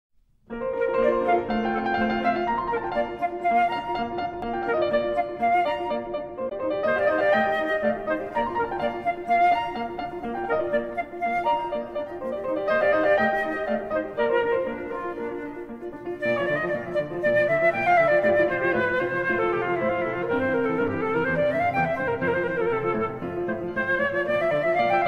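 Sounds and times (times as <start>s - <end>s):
piano accompaniment: 0.4s - 25.0s
wind instrument melody: 0.5s - 25.0s.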